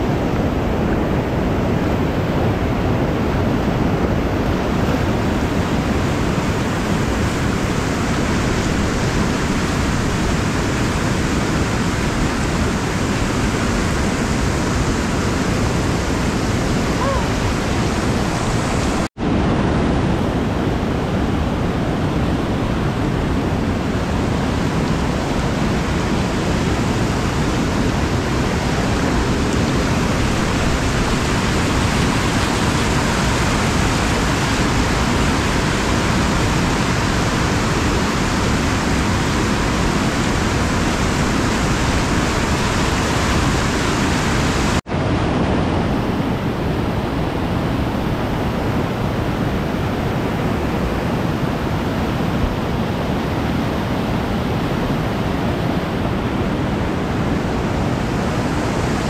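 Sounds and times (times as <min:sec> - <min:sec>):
whitewater rushing: 0:00.0 - 0:59.0.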